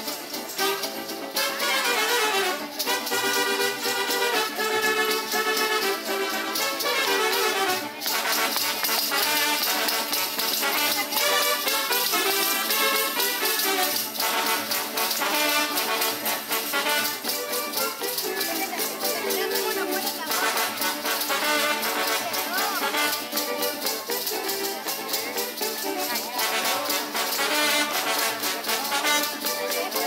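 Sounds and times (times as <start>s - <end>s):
brass band playing dance tune: 0.0s - 30.0s
small bells jingling: 0.0s - 30.0s.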